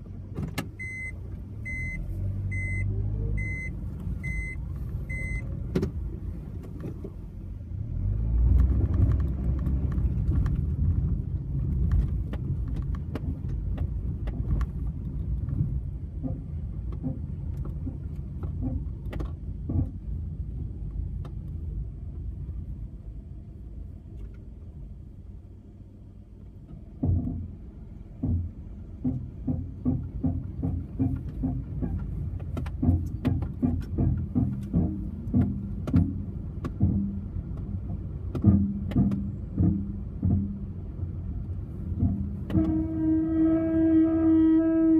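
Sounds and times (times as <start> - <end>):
car knocking and clicking: 0.0 - 1.8, 3.4 - 7.4, 8.3 - 23.0, 26.2 - 43.6
car low rumble: 0.0 - 44.9.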